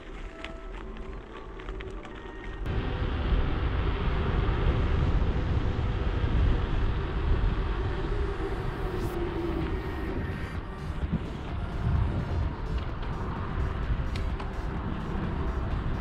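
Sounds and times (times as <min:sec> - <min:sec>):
road noise on tarmac: 0:00.0 - 0:16.0
wind rushing over microphone: 0:02.7 - 0:16.0.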